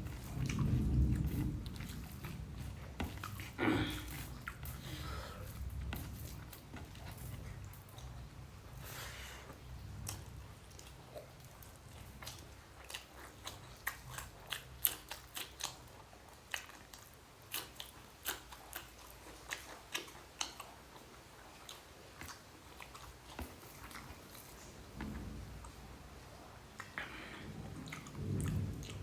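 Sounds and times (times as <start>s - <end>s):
person chewing with wet clicks: 0.0s - 29.0s.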